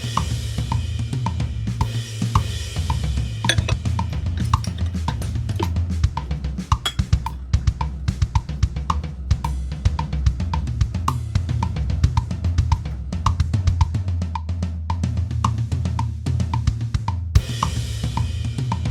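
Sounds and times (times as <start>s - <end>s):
drum beat with bass line: 0.0s - 18.9s.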